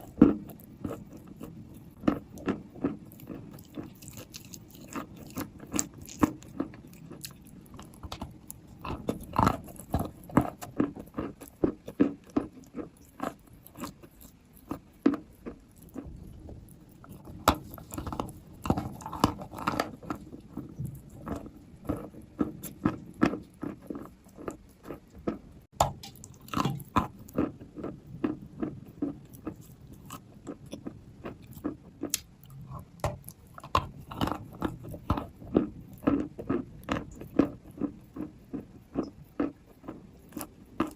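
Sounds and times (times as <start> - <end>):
chewing crunchy chalk: 0.0 - 25.4, 26.0 - 40.9.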